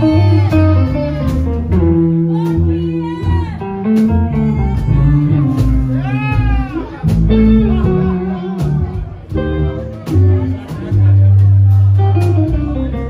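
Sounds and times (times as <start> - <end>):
electric guitar lead: 0.0 - 13.0
rockabilly band playing: 0.0 - 13.0.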